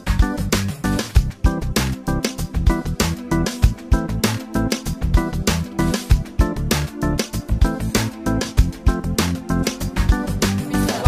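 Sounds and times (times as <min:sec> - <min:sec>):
upbeat acoustic guitar song: 0:00.0 - 0:11.0.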